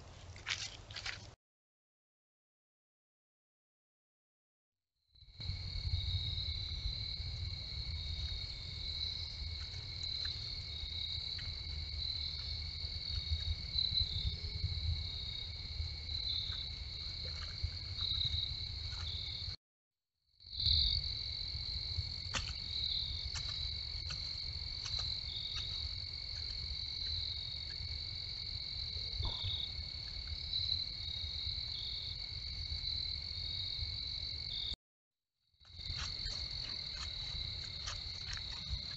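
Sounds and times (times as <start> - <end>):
crickets chirping: 5.2 - 19.6, 20.3 - 34.8, 35.6 - 38.9.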